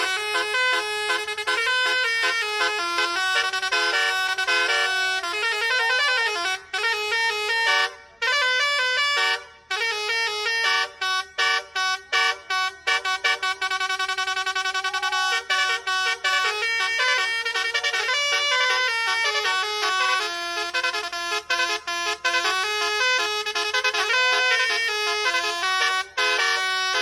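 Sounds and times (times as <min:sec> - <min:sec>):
musical air horn melody: 0:00.0 - 0:27.0.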